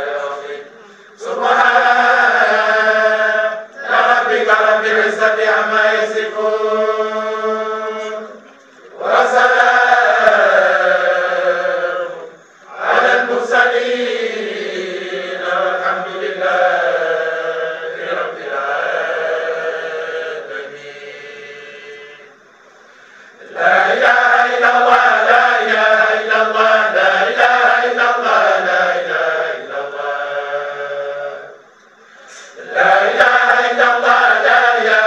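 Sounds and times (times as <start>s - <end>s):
women chanting: 0.0s - 22.4s, 23.4s - 31.6s, 32.6s - 35.0s.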